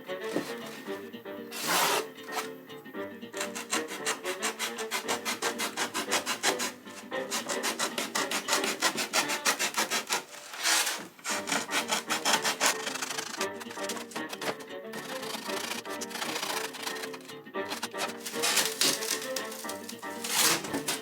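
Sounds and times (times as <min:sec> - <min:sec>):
hand tool rasping on workpiece: 0:00.0 - 0:02.6, 0:03.3 - 0:21.0.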